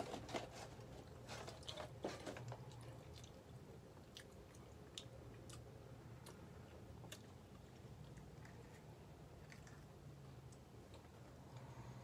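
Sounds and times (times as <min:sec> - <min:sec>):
person chewing: 0:01.4 - 0:11.7.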